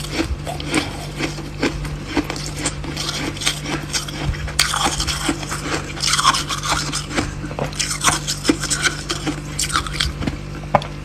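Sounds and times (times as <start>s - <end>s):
frost scraping and crunching: 0.0s - 11.0s
low hum: 0.0s - 11.0s.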